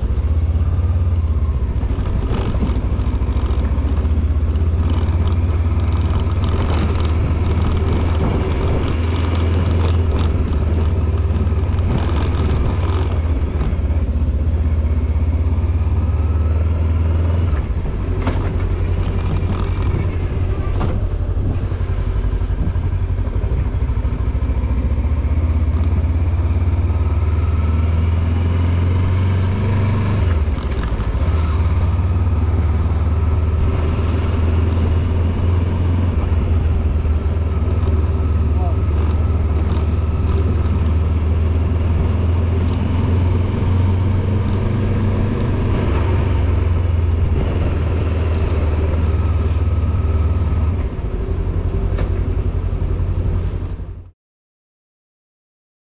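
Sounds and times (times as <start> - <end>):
motorcycle engine rumble: 0.0 - 54.1.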